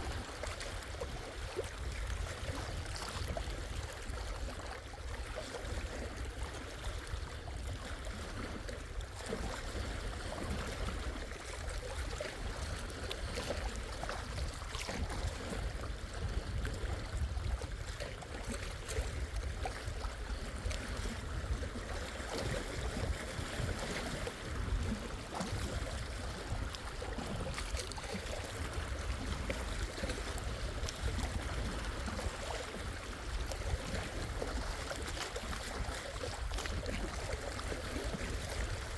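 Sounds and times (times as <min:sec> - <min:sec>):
waves lapping at shore: 0:00.0 - 0:38.9.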